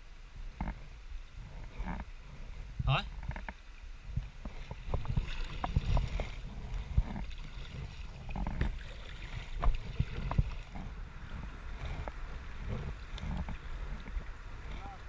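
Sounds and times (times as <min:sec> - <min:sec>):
paddle blades splashing water: 0:01.7 - 0:15.0.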